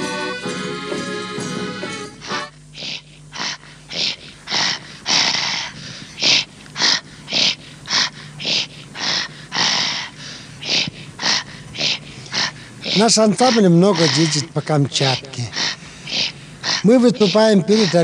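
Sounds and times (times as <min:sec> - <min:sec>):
faint low hum: 0:00.0 - 0:18.0
raspy rhythmic throat exhalations: 0:00.0 - 0:18.0.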